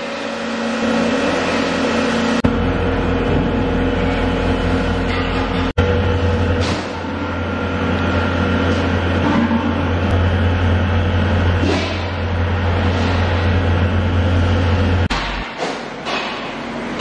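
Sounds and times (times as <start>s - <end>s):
factory machinery drone: 0.0s - 17.0s.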